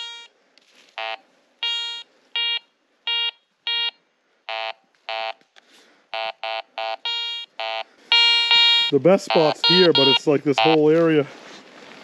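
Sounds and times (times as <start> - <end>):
metal detector beeping: 0.0 - 0.3, 1.0 - 5.4, 6.1 - 11.0.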